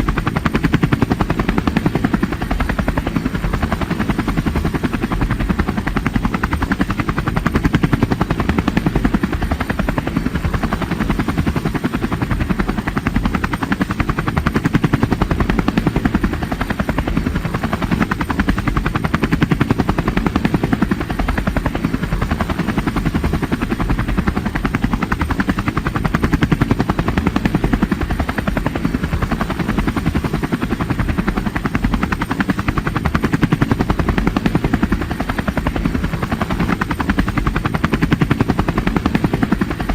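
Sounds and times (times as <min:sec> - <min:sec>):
helicopter rotor chop: 0:00.0 - 0:39.9.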